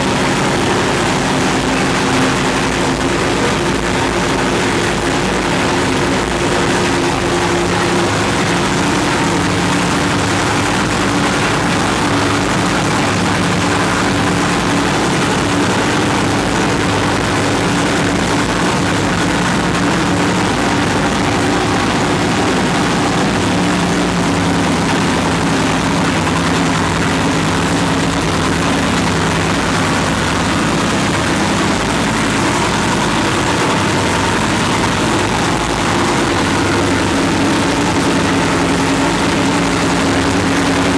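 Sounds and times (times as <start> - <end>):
racing engine idling: 0.0 - 40.9.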